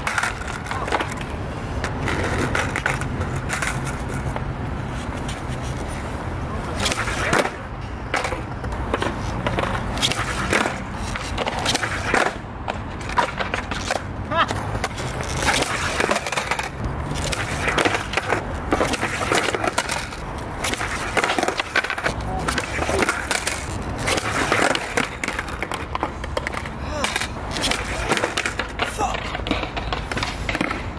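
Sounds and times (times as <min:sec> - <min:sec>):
skateboard clacking on concrete: 0:00.0 - 0:30.9
skateboard wheels rolling on concrete: 0:00.0 - 0:30.9.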